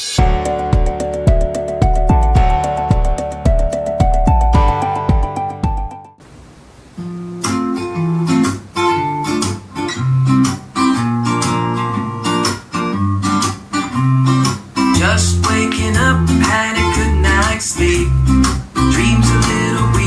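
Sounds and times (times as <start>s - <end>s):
strummed acoustic guitar music: 0.2s - 6.0s, 7.0s - 20.0s.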